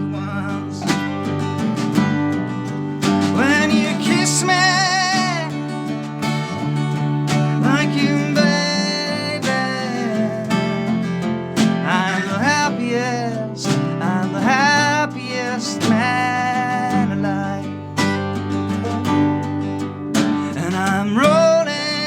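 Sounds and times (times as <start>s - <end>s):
acoustic guitar band instrumental: 0.0s - 22.0s.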